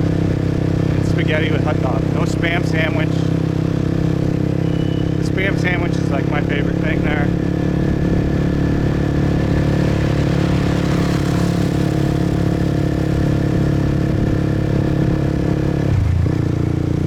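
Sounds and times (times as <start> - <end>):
motorbike engine running: 0.0 - 17.0
road noise: 0.0 - 17.0.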